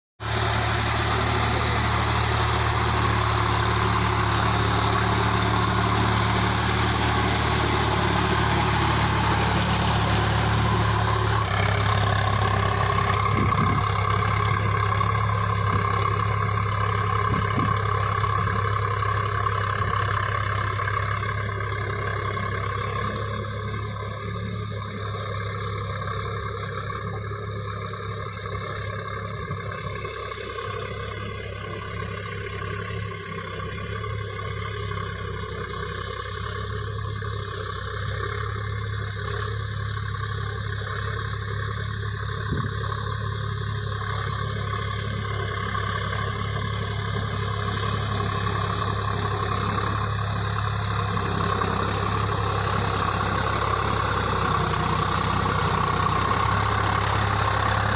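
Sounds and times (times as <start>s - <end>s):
tractor diesel engine running: 0.2s - 57.9s.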